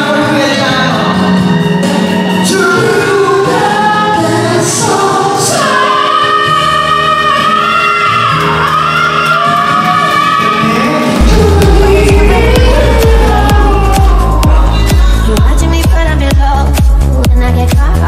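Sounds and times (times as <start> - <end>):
musical accompaniment: 0.0 - 18.0
voices singing pop ballad: 0.0 - 18.0.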